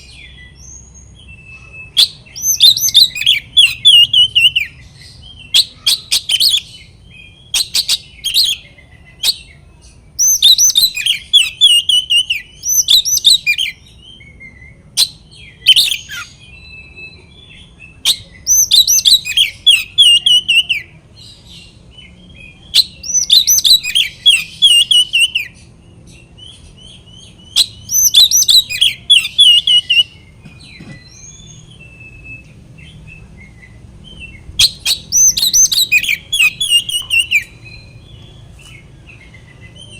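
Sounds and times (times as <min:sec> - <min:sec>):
bird singing rapid phrases: 0:00.0 - 0:39.9.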